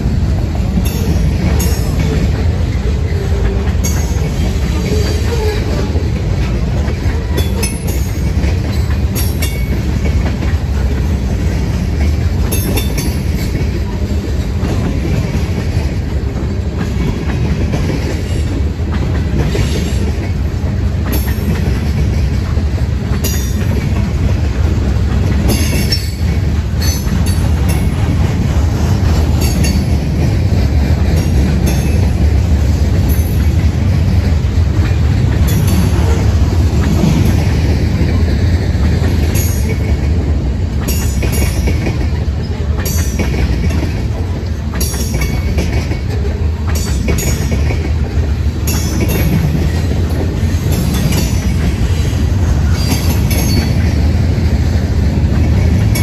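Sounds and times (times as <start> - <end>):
freight train rumbling past: 0.0 - 56.0
wheels clattering on rails: 0.0 - 56.0.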